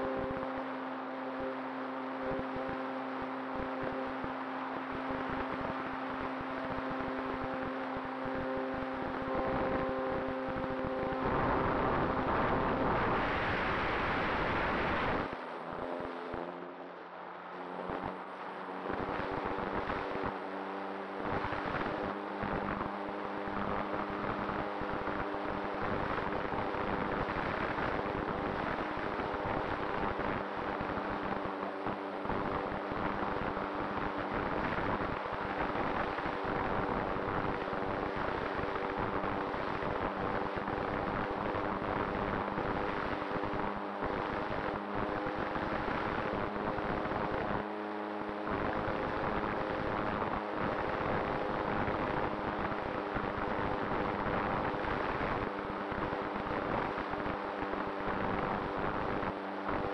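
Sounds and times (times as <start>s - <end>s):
model glider motor droning: 0.0s - 59.9s
wind rush on microphone: 2.2s - 59.9s.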